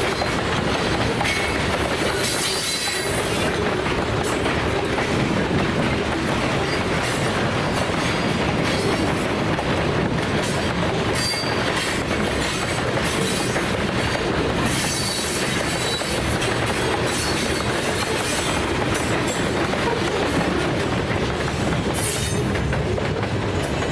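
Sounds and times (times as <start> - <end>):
freight cars rumbling and rattling: 0.0 - 23.9.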